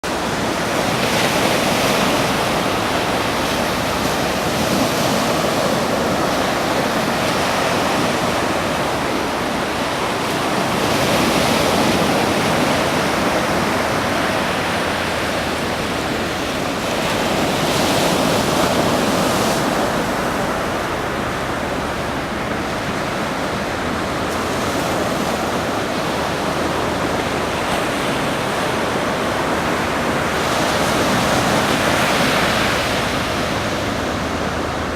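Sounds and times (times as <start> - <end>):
ocean waves breaking on beach: 0.0 - 34.9.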